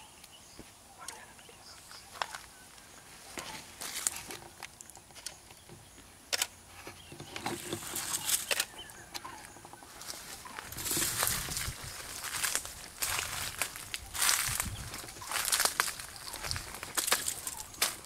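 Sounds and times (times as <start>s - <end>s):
dry vegetation rustling and snapping: 1.8s - 18.0s.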